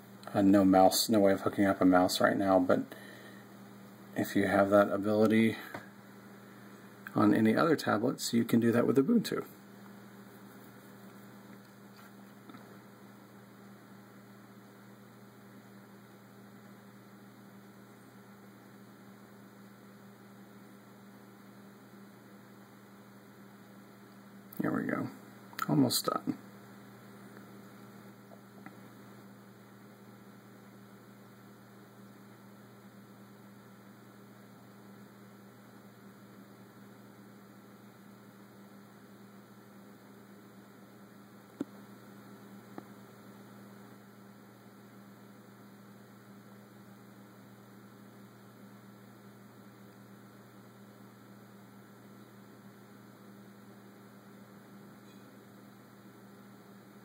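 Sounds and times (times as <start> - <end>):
faint electrical hum: 0.0 - 57.0
low hiss: 0.0 - 57.0.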